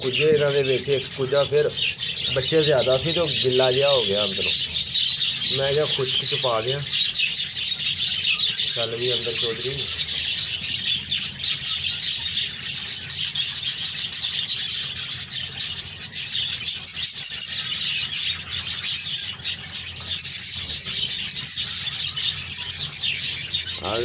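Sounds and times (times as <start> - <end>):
budgerigars chattering and chirping: 0.0 - 24.0.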